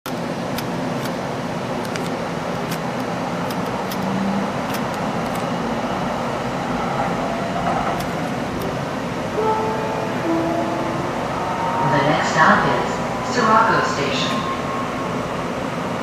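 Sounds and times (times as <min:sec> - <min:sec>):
light-rail car running on track: 0:00.1 - 0:16.0.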